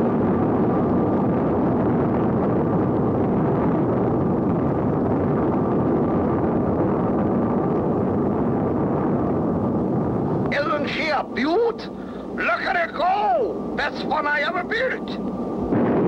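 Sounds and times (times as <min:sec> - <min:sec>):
rocket engine rushing: 0:00.0 - 0:16.0.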